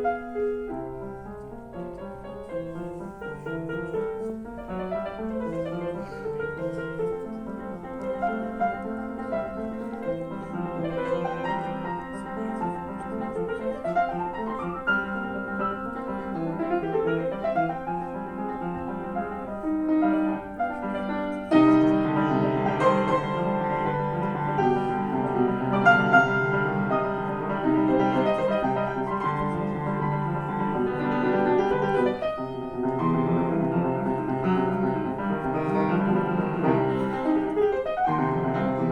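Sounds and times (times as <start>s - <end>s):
solo piano classical piece: 0.0s - 38.9s.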